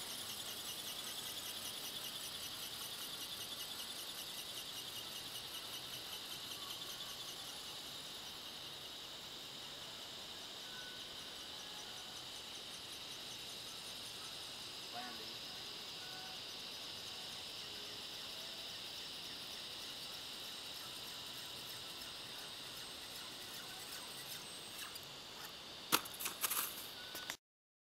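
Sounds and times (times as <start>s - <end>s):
insects chirping: 0.0s - 27.4s.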